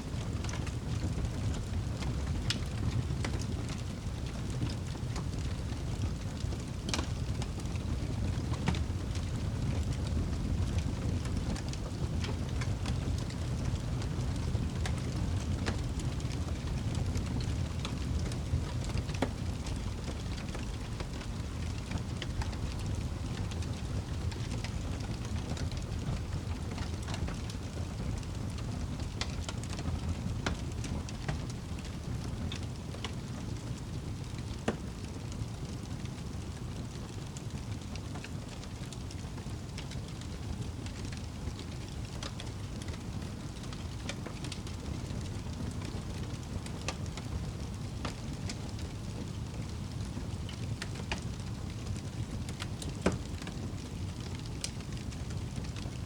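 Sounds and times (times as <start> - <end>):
log fire crackling: 0.0 - 56.0.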